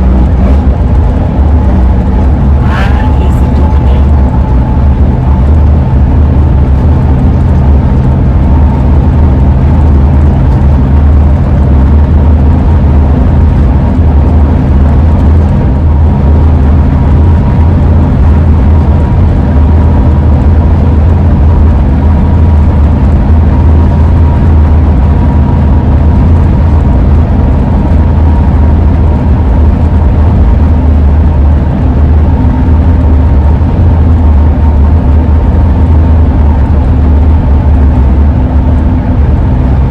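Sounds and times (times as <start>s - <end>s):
van engine and road rumble: 0.0s - 39.9s
wind howl: 0.0s - 39.9s.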